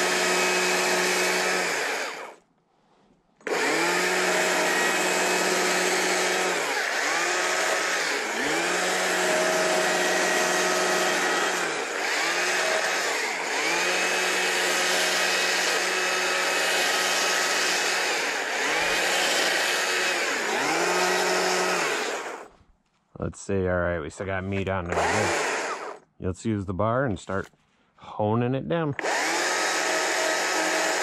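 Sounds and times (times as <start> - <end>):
chainsaw cutting log: 0.0 - 2.4, 3.4 - 22.6, 24.6 - 26.0, 29.0 - 31.0.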